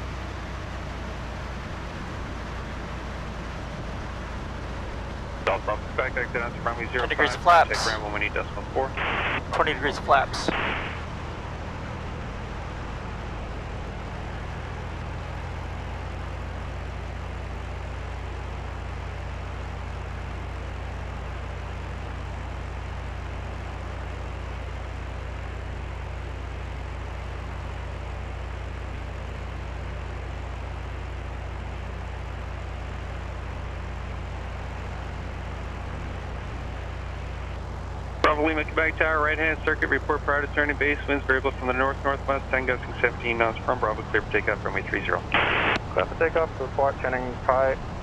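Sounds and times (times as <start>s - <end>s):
plane engine droning: 0.0s - 48.0s.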